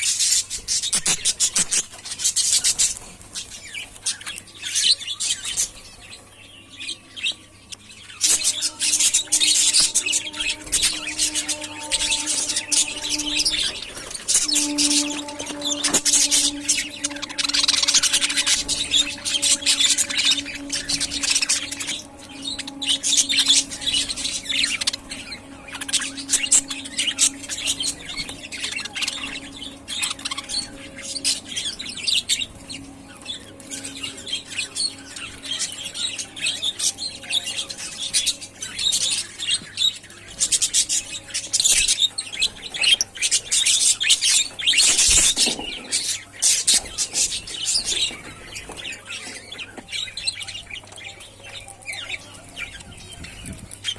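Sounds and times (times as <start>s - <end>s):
budgerigars chattering and chirping: 0.0s - 53.9s.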